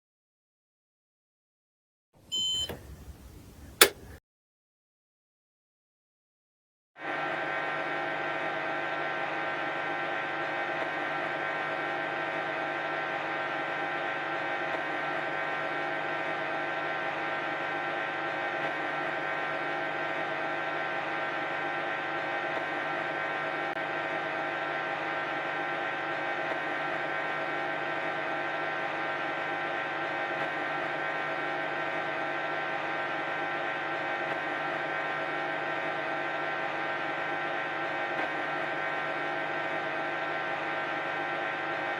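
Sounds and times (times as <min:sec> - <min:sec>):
washing machine spin cycle whir: 0:02.2 - 0:04.2, 0:07.0 - 0:41.9.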